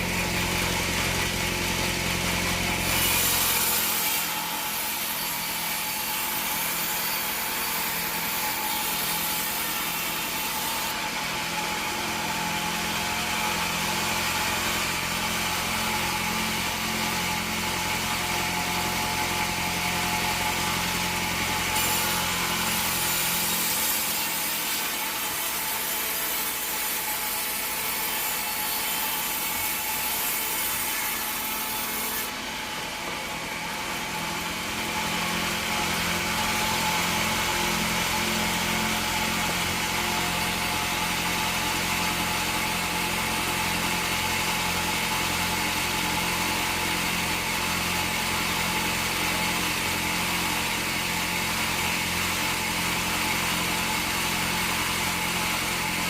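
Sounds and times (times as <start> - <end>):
bandsaw blade cutting log: 0.0 - 56.0
sawmill motor running: 0.0 - 56.0.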